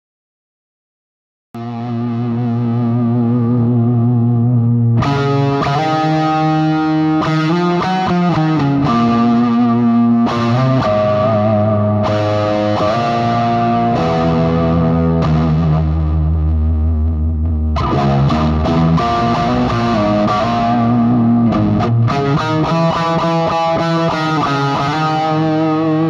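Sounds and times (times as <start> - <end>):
distorted electric guitar lead: 1.6 - 26.0.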